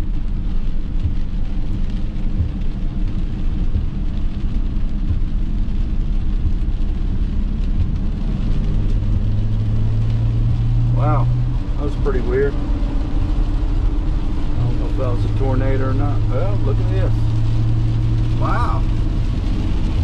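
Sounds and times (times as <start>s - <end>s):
steady low hum: 0.0s - 20.0s
vehicle rumble on wet road: 0.0s - 20.0s.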